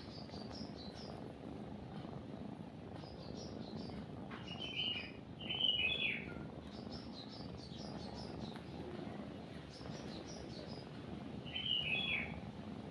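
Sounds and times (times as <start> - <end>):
songbirds chirping: 0.0 - 1.3, 2.8 - 12.4
kitten purring: 0.0 - 12.9.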